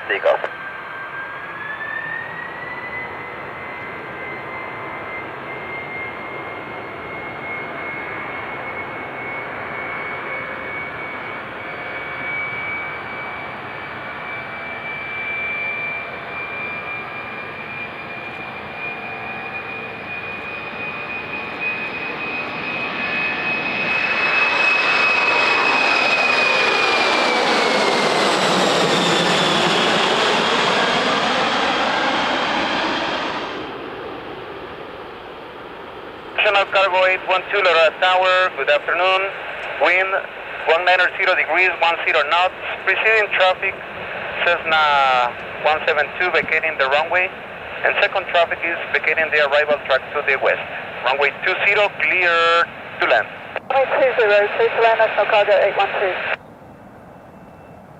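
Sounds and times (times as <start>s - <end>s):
jet engines high fan whine: 0.0s - 57.9s
jet passing with swooshing rumble: 0.0s - 57.9s.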